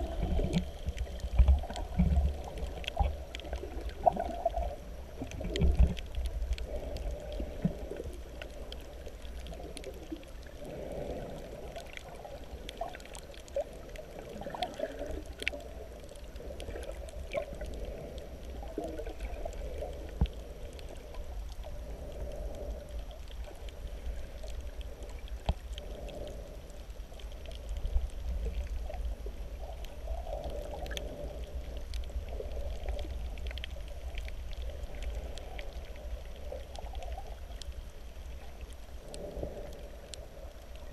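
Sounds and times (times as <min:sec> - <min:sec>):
faint clicks and crackles: 0:00.0 - 0:40.9
muffled underwater water rumble: 0:00.0 - 0:40.9.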